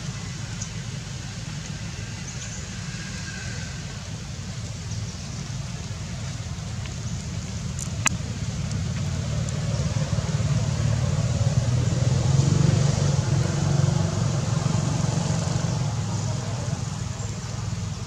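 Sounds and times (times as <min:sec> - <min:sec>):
motor vehicle passing rumble: 0:00.0 - 0:18.0.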